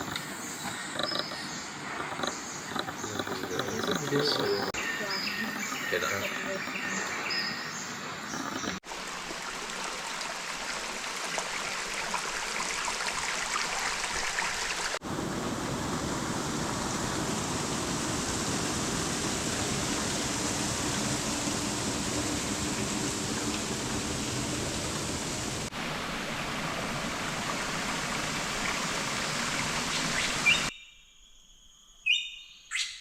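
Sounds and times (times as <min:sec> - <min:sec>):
flowing water rushing: 0:00.0 - 0:30.7.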